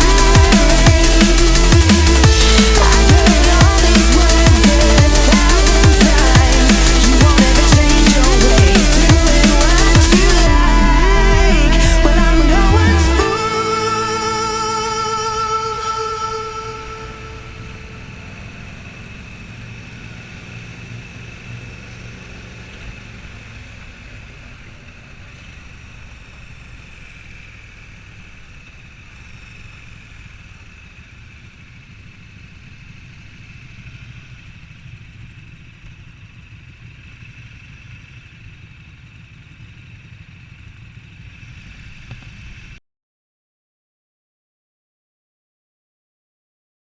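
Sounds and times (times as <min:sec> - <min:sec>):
motorcycle engines rumbling: 0:00.0 - 0:42.8.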